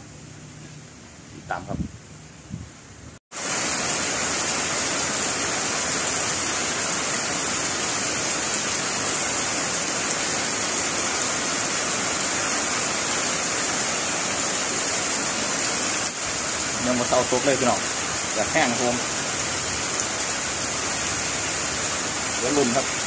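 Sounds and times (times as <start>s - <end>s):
heavy rain on pond: 3.3s - 23.0s.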